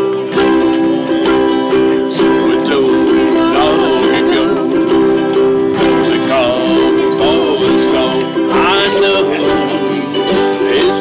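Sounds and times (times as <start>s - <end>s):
mandolins: 0.0s - 11.0s
ukuleles and guitars strumming: 0.0s - 11.0s
upright bass: 0.0s - 11.0s.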